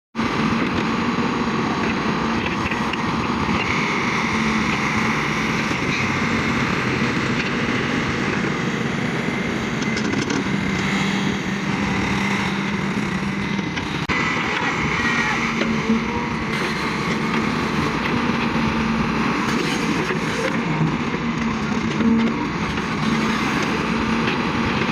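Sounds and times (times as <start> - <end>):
excavator diesel engine running: 0.2 - 24.9.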